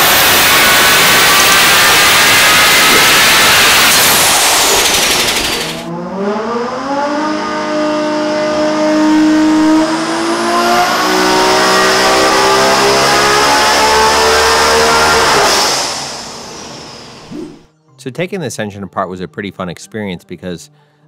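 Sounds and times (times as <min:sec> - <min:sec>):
turbocharged engine revving: 0:00.0 - 0:17.6
high turbo whine: 0:00.0 - 0:17.7.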